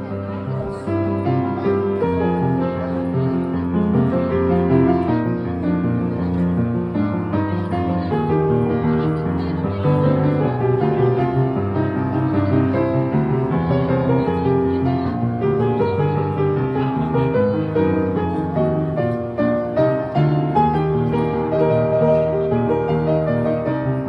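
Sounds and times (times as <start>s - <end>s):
piano playing chords: 0.0s - 24.0s.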